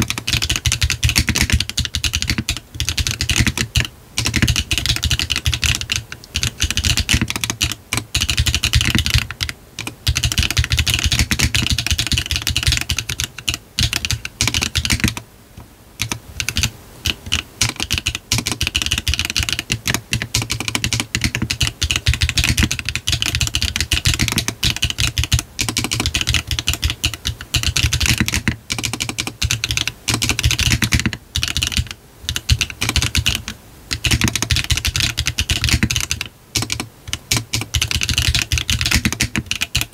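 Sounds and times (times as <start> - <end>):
mechanical keyboard typing: 0.0 - 15.2, 16.0 - 39.9.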